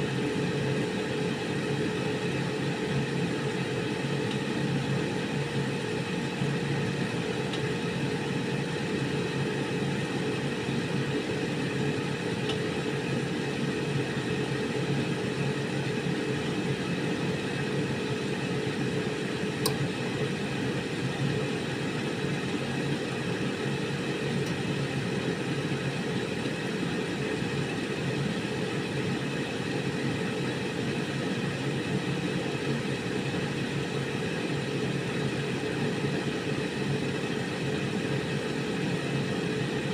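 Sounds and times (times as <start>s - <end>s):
air fryer fan whirring: 0.0s - 39.9s.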